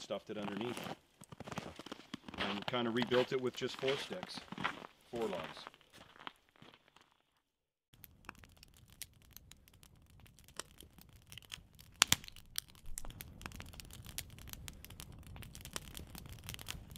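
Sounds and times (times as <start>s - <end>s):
fire crackling: 0.0s - 7.2s, 7.9s - 16.9s.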